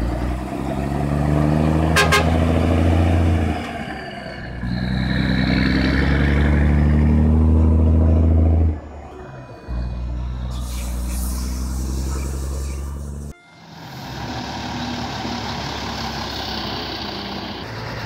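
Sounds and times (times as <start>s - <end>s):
truck diesel engine pulling away: 0.0s - 18.0s.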